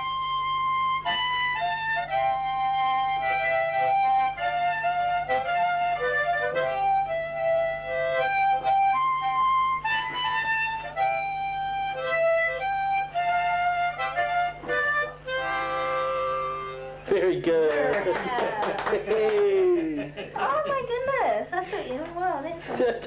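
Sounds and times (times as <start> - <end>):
harmonica melody: 0.0 - 20.0.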